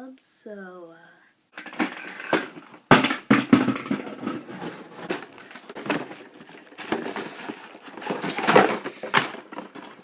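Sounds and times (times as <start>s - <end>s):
small objects clattering: 1.6s - 10.0s.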